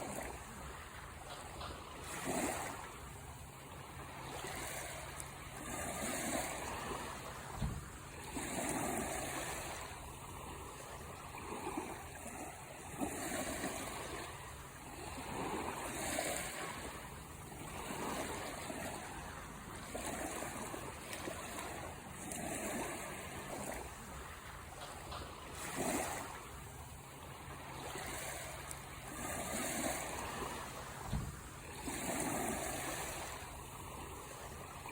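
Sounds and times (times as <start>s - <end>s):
ocean waves washing onto shore: 0.0s - 34.9s.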